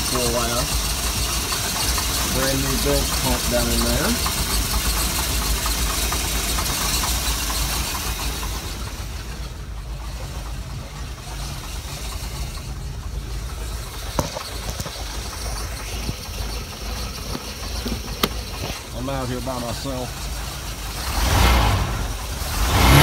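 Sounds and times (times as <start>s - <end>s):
boat engine idling: 0.0s - 23.0s.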